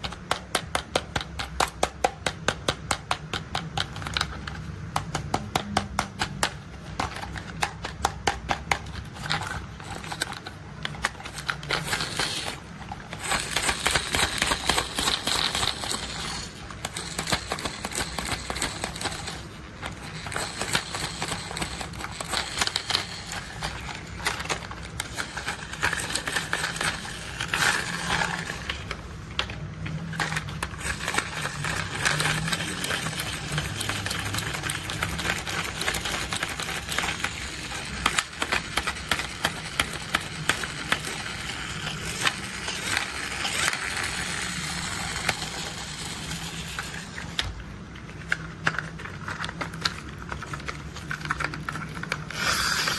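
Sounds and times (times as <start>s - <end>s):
plastic toy vehicles clicking and rattling: 0.0s - 52.9s.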